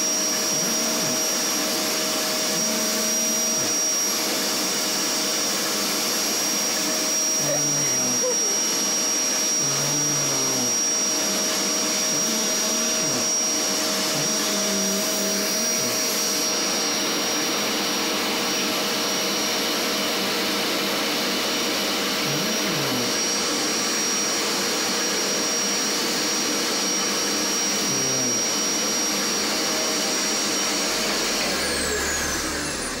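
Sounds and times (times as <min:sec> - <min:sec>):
vacuum cleaner whining: 0:00.0 - 0:33.0.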